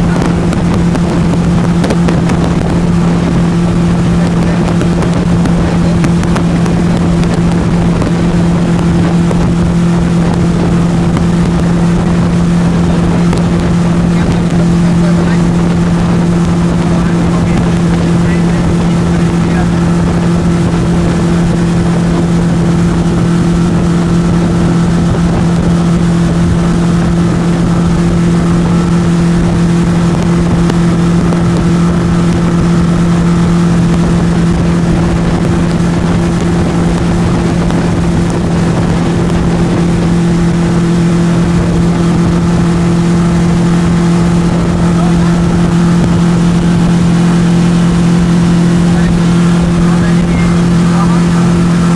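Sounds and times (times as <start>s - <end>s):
motorboat engine drone: 0.0s - 51.9s.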